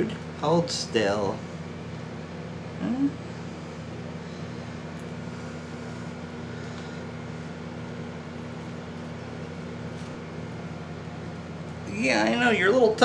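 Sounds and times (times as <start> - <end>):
air conditioning hum: 0.0 - 13.0.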